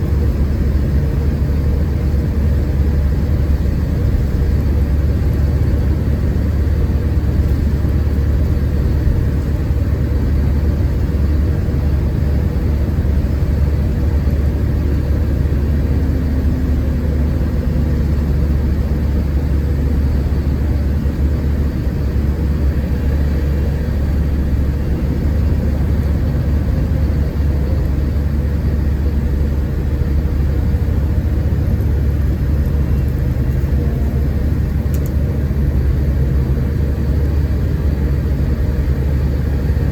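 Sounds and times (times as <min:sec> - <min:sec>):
bus engine deep hum: 0:00.0 - 0:39.9
road and tyre noise: 0:00.0 - 0:39.9.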